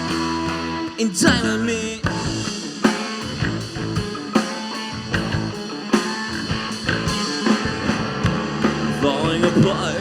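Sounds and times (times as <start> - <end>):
drum kit beat: 0.0 - 10.0
electric guitar playing: 0.0 - 10.0.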